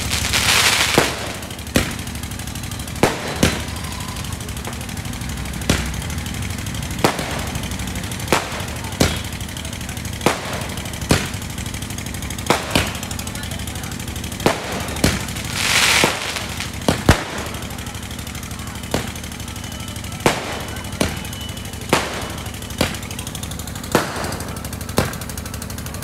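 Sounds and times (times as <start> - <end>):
firework hiss: 0.0 - 23.2
fireworks bursting with bangs: 0.0 - 26.0.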